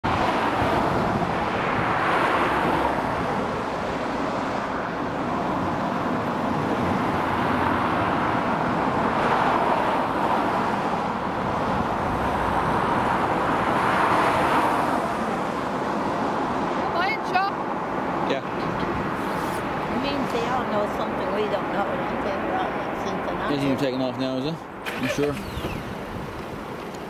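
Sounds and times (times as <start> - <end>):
vehicles driving past: 0.0 - 27.0.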